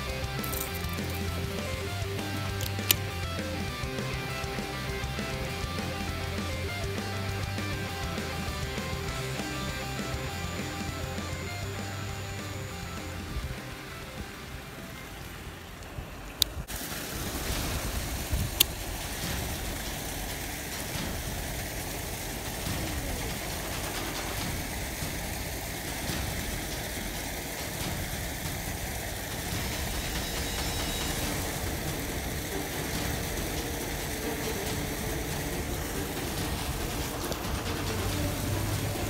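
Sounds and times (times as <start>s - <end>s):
water pouring down wall: 0.0s - 39.0s.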